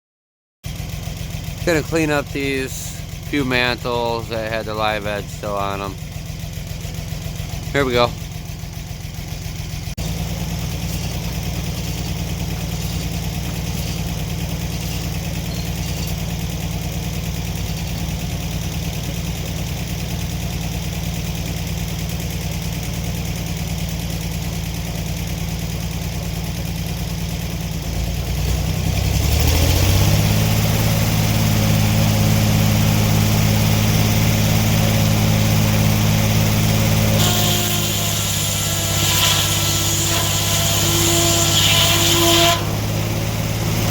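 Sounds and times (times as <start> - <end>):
sawmill engine running: 0.7 - 43.9.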